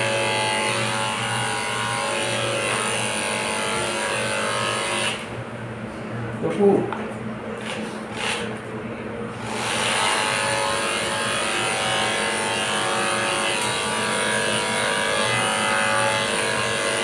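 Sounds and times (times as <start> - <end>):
electric hair clipper humming: 0.0 - 5.3, 7.6 - 8.5, 9.4 - 17.0.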